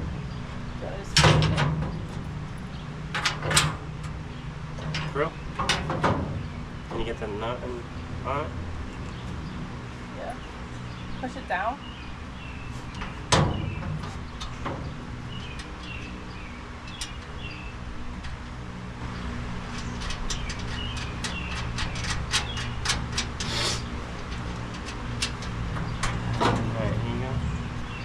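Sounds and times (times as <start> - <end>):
small birds chirping: 1.9 - 3.1, 4.2 - 28.0.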